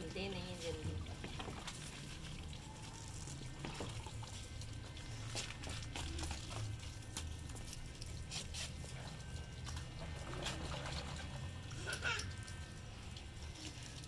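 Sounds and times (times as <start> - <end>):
hose water splashing into tub: 0.0 - 14.0
small clicks and drips: 0.1 - 14.0.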